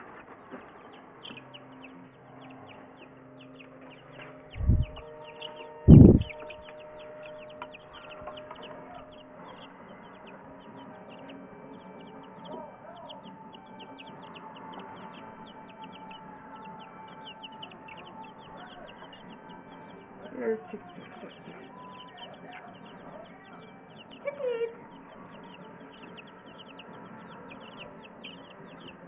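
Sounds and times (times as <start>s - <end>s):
baby chicks peeping: 0.0s - 29.0s.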